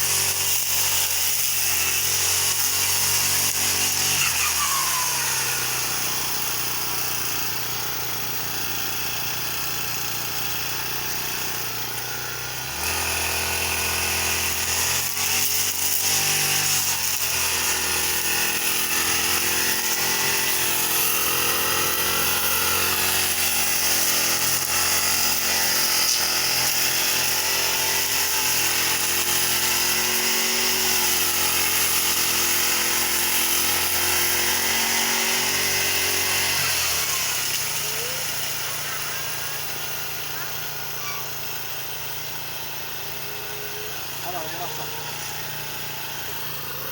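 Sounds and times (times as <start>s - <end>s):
brush cutter engine revving: 0.0s - 46.9s.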